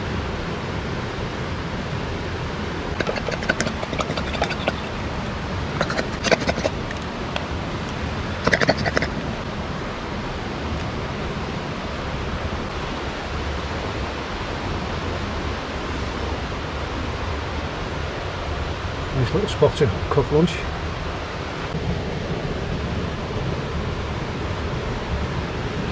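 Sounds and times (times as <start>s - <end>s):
river water over rocks: 0.1s - 25.9s.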